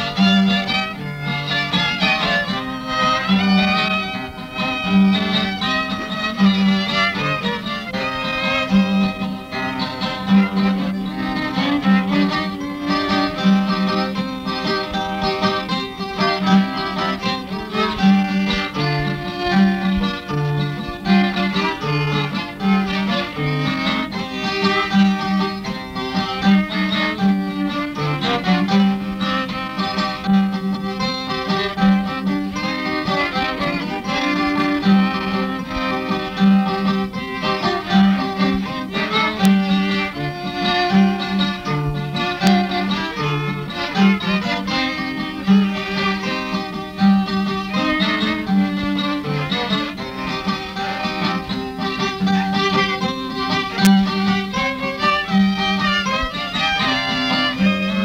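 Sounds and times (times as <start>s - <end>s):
guitar accompaniment: 0.0s - 58.0s
violin melody: 0.0s - 58.0s.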